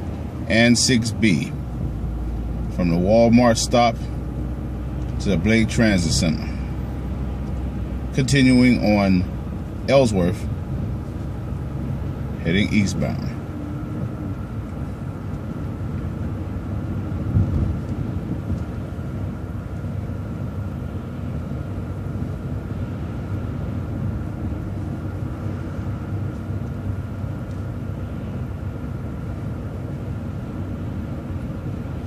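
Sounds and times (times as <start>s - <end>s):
bus engine and road rumble: 0.0s - 32.0s.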